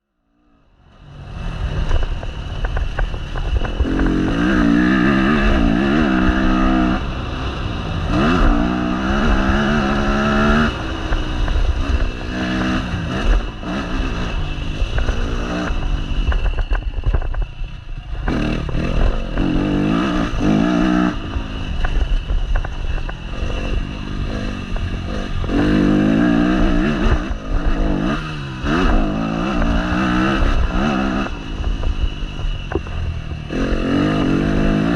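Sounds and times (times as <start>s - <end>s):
wind noise: 0.6s - 34.9s
motocross bike engine revving: 1.0s - 34.9s.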